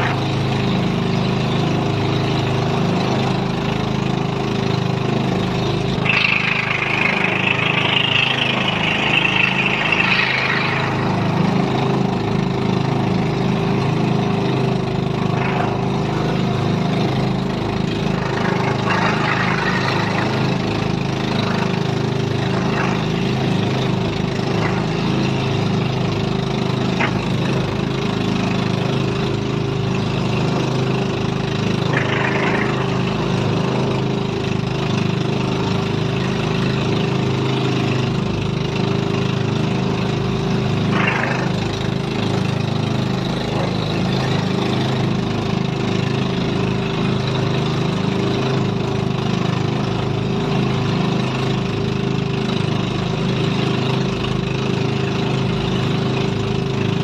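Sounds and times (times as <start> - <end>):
small boat engine running: 0.0 - 57.0
water rushing past hull: 0.0 - 57.0.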